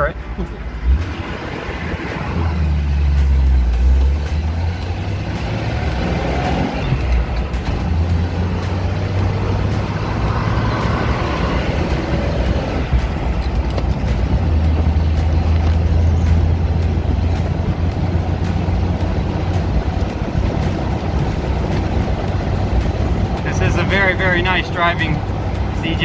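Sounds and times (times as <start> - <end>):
car engine droning: 0.0 - 26.0
road noise: 0.0 - 26.0.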